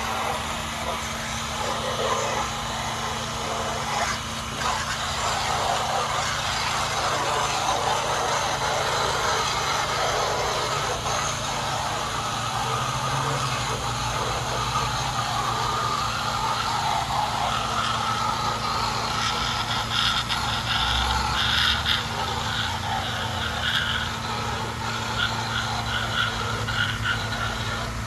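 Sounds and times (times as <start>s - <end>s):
pressure washer engine humming: 0.0s - 28.0s
water jet hissing: 0.0s - 28.0s.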